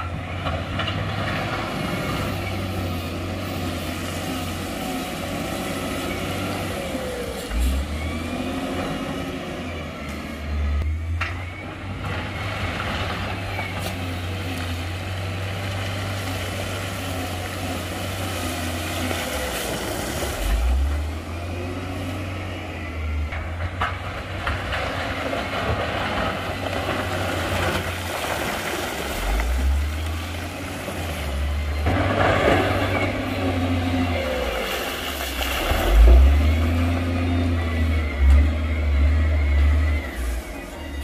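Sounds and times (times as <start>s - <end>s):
heavy diesel engine under load: 0.0s - 41.0s.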